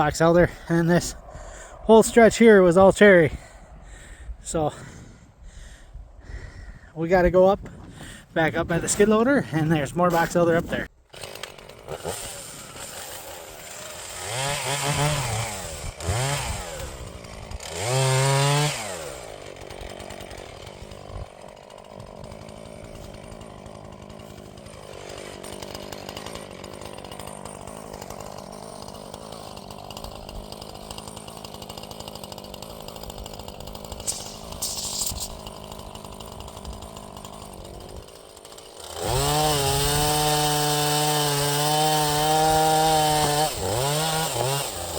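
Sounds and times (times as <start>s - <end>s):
chainsaw revving: 7.2s - 44.9s.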